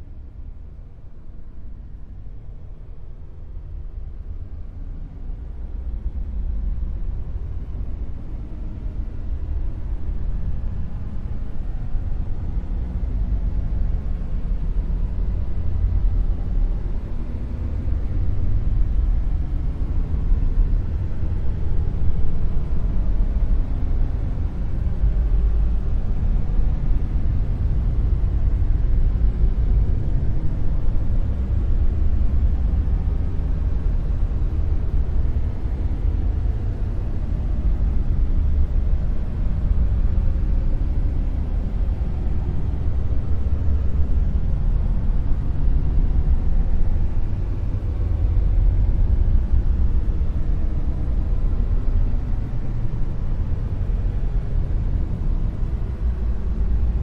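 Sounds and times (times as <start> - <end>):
deep steady rumbling noise: 0.0 - 57.0.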